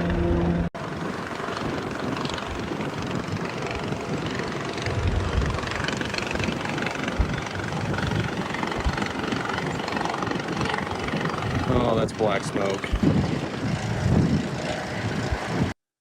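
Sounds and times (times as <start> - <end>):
aircraft rushing drone: 0.0 - 15.8.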